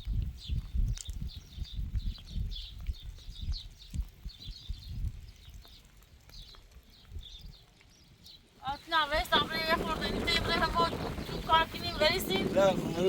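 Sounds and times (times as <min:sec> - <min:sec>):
wind gusting on microphone: 0:00.0 - 0:07.7, 0:08.6 - 0:13.0.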